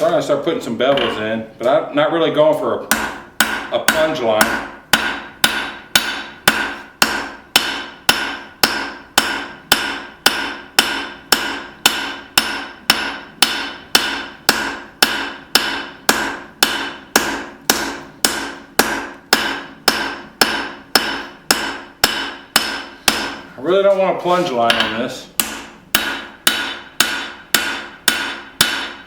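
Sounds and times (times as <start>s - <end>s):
hammer striking steel on anvil: 0.9s - 1.4s, 2.9s - 23.5s, 24.4s - 29.0s.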